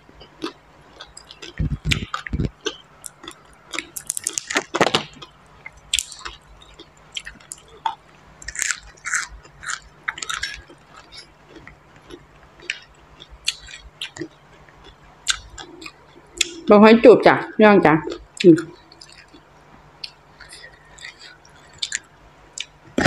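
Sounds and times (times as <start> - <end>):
person chewing leafy greens: 0.0 - 16.7, 18.1 - 23.0.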